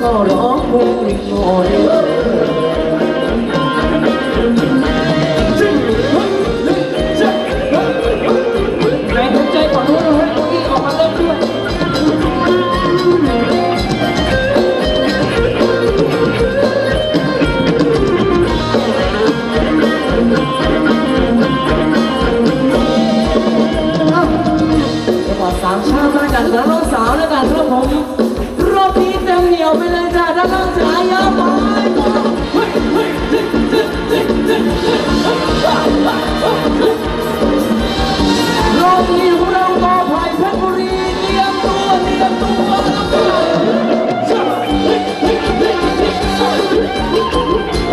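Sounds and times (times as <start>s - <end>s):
guitar: 0.0s - 47.9s
live band dance music: 0.0s - 47.9s
person singing: 0.0s - 47.9s
steady drum beat: 0.0s - 47.9s.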